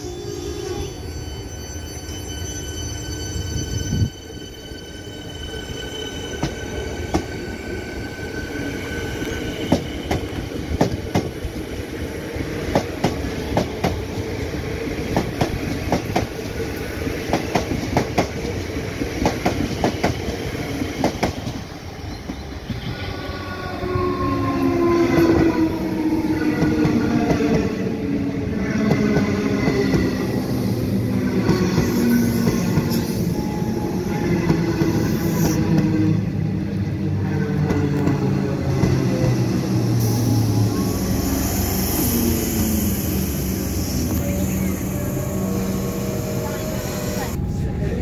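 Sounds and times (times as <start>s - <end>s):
train rumbling: 0.0s - 48.0s
train whine: 0.0s - 48.0s.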